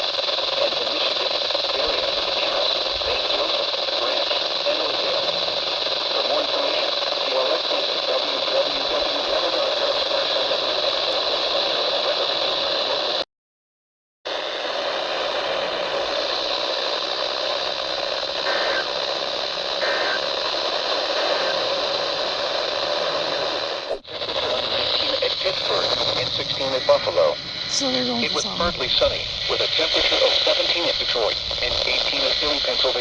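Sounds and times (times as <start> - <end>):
radio static hiss: 0.0 - 13.2, 14.3 - 33.0.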